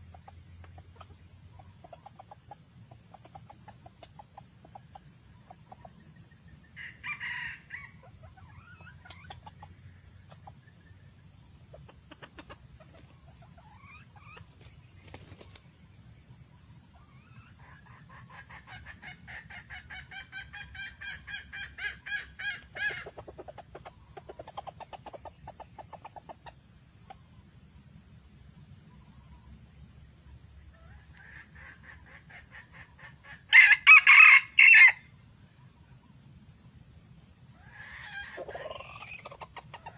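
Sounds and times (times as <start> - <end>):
junglefowl crowing and clucking: 0.0 - 15.6, 16.6 - 27.4, 28.8 - 35.8, 37.4 - 39.9.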